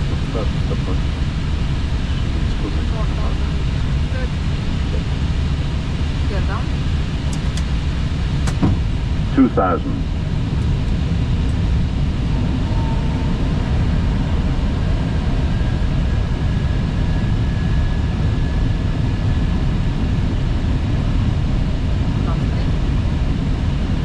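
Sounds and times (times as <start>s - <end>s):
engine and airflow rumble: 0.0s - 24.0s.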